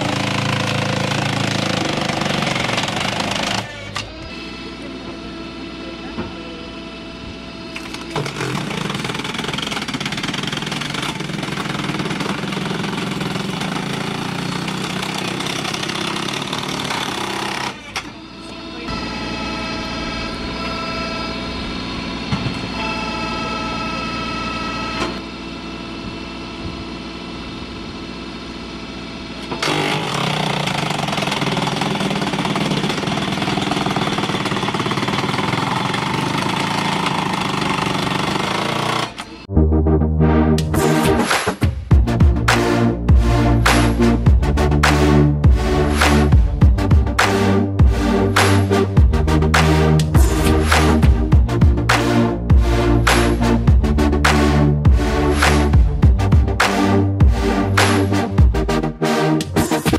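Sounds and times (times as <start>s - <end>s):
tractor engine running: 0.0s - 39.5s, 40.6s - 59.9s.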